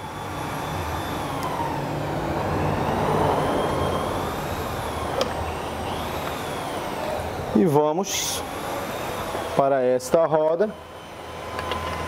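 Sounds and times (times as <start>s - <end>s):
machine humming with whine: 0.0s - 12.0s.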